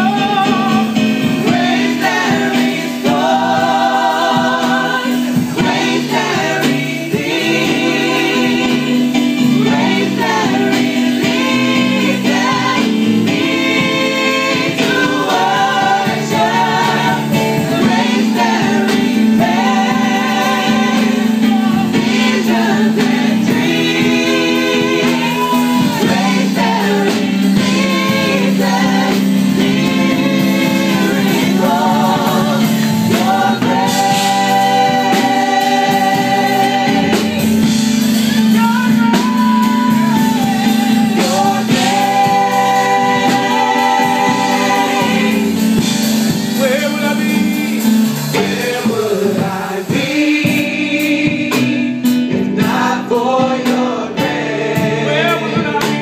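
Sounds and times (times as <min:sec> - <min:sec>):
keyboard playing low chords: 0:00.0 - 0:56.0
vocal group singing in harmony: 0:00.0 - 0:56.0.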